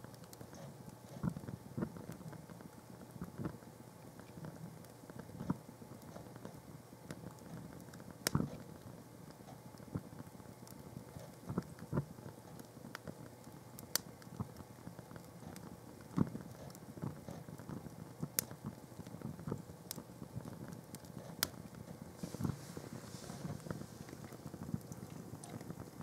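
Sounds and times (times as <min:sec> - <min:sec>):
small fire crackling and popping: 0:00.0 - 0:26.0.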